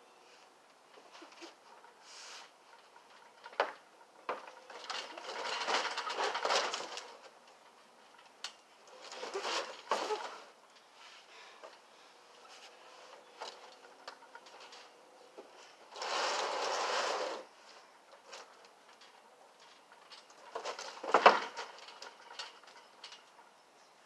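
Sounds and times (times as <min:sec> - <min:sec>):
trampoline mat rustling and creaking: 0:00.9 - 0:24.0.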